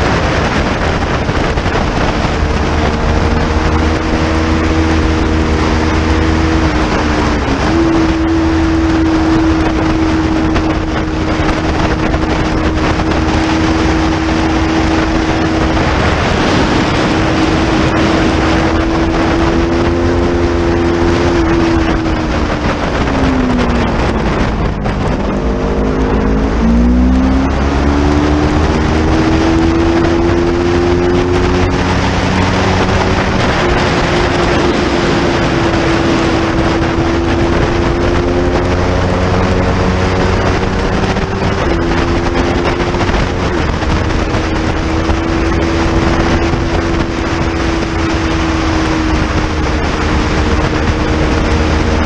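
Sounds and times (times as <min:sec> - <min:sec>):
motorcycle engine revving: 0:00.0 - 0:52.0
wind rushing over microphone: 0:00.0 - 0:52.0.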